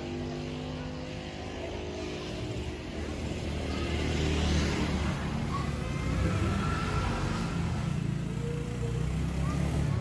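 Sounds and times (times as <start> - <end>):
distant motorcycle engine running: 0.0 - 10.0.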